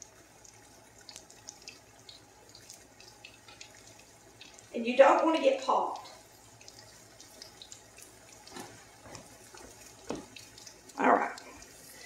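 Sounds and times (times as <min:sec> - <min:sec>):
oil sizzling: 0:00.0 - 0:12.0
potato pieces plopping into oil: 0:01.1 - 0:11.7.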